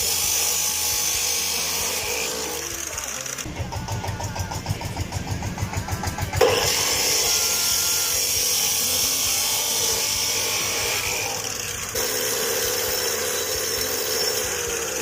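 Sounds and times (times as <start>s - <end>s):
power tool cutting steel pipe: 0.0s - 15.0s.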